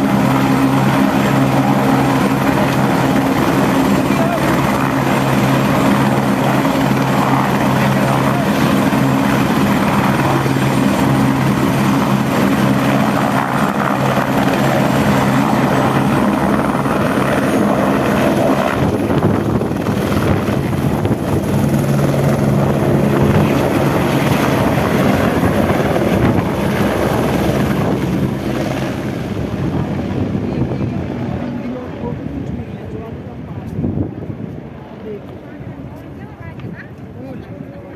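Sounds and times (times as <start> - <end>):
helicopter turbine and rotor: 0.0 - 37.9.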